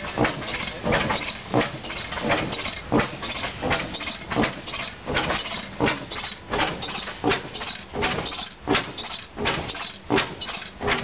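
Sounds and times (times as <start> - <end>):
gas engine exhaust popping: 0.0 - 11.0.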